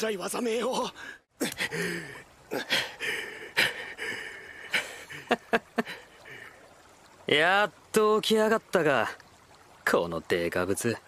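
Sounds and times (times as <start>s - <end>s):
forest background: 0.0s - 11.0s.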